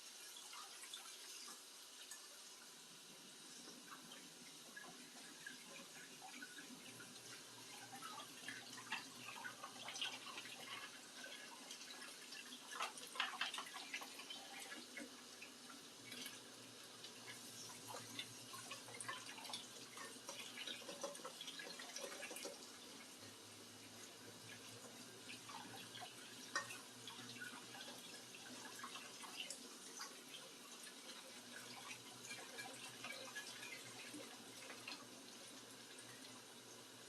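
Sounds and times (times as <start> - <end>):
running tap water: 0.0 - 37.0.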